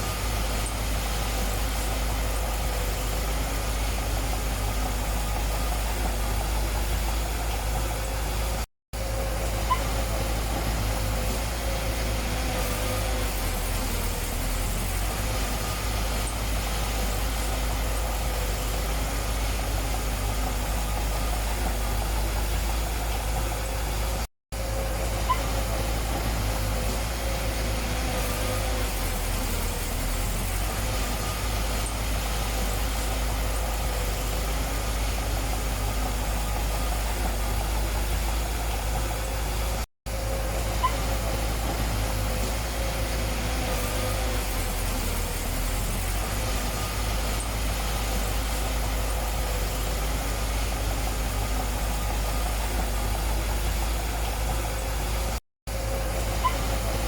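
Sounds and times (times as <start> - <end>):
diesel engine running at low revs: 0.0 - 57.0.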